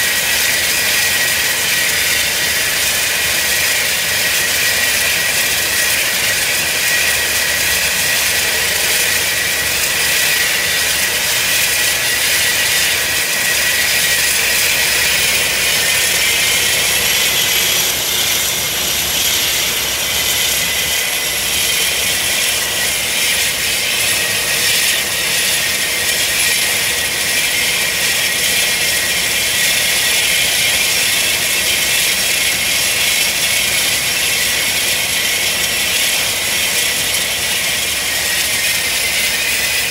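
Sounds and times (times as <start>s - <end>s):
turboprop engine whine: 0.0s - 39.9s.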